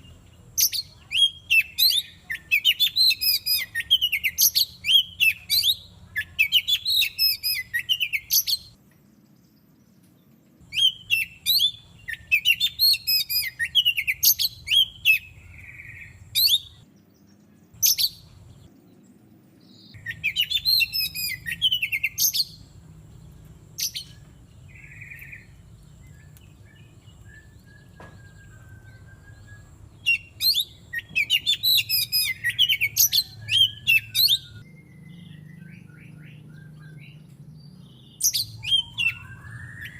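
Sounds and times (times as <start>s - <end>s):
songbird singing whistles and chirps: 0.0s - 39.9s.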